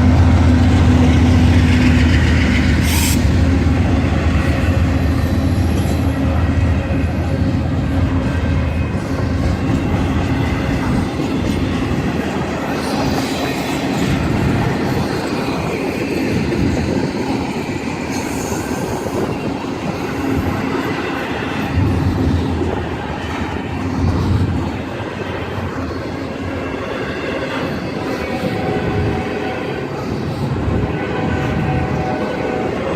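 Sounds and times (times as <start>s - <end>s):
freight train rumbling: 0.0s - 32.9s.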